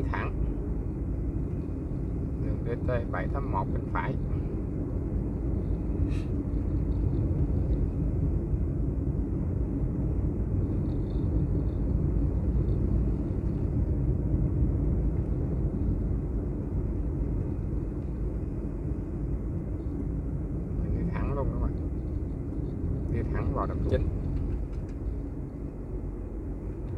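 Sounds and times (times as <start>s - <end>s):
faint steady hum: 0.0s - 26.9s
road and wind noise: 0.0s - 26.9s
vehicle engine rumble: 0.0s - 26.9s.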